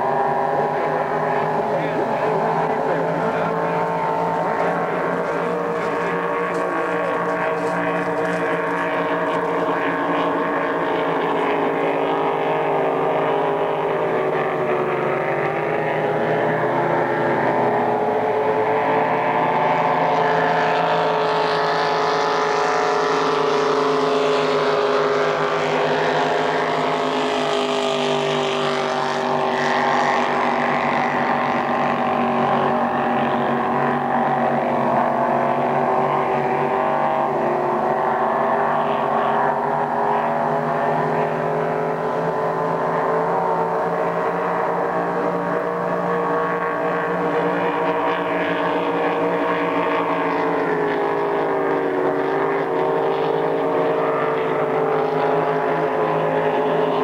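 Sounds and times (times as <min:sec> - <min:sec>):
racing boat engines droning: 0:00.0 - 0:57.0.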